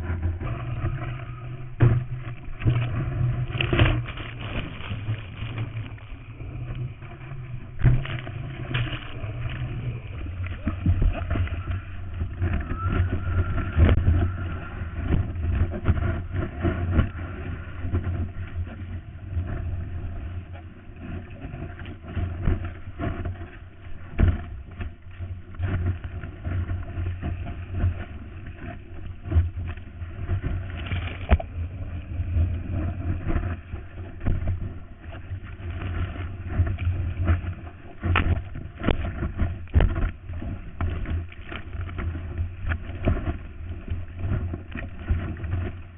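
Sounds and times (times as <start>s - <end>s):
muffled water and wind noise: 0.0s - 45.9s.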